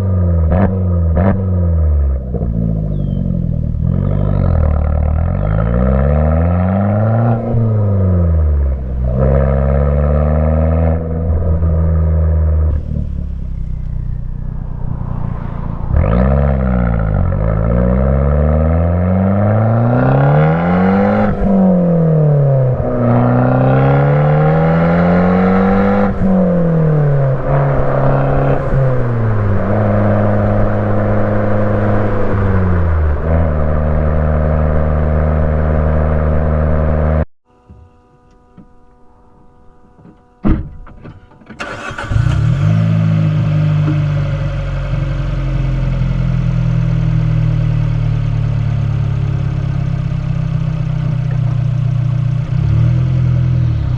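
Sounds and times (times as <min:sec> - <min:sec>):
car engine accelerating: 0:00.0 - 0:37.3, 0:39.0 - 0:53.9.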